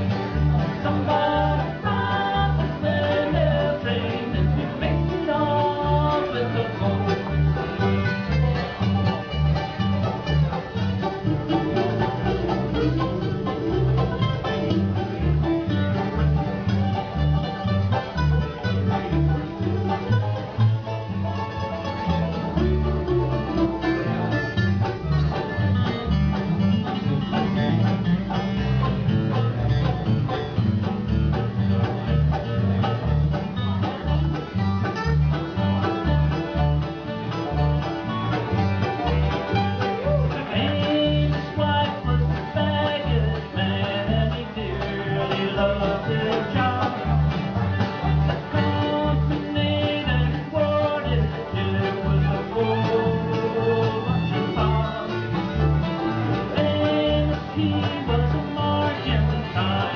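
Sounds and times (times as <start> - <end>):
bluegrass band playing: 0.0 - 59.9
upright bass plucking: 0.0 - 59.9.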